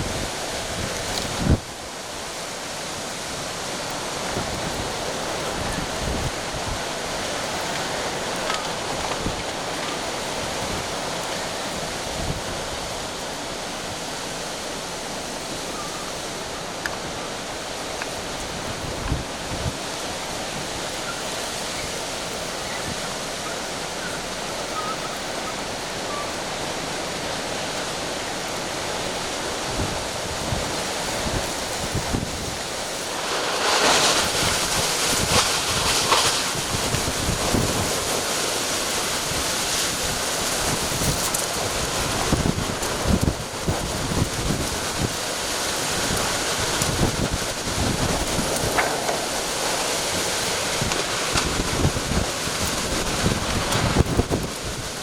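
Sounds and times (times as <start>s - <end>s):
wind buffeting microphone: 0.0s - 1.8s, 3.0s - 14.8s, 15.8s - 26.7s, 28.4s - 55.0s
strong wind blowing: 0.0s - 2.1s, 2.8s - 55.0s
rushing water and surf: 0.0s - 55.0s.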